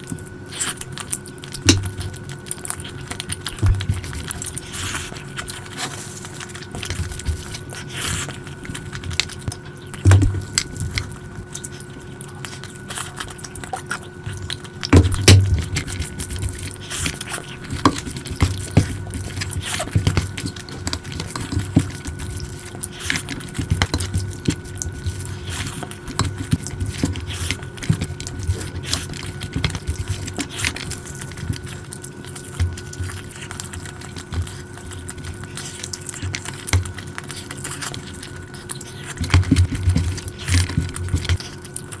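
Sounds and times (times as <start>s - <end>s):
faint electrical hum: 0.0s - 42.0s
wet chewing and lip smacks: 0.0s - 42.0s.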